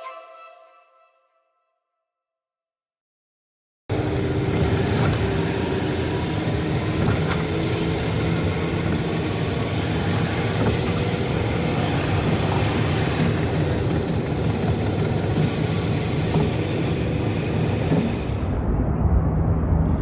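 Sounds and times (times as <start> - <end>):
vehicle engine and road noise: 3.9 - 20.0.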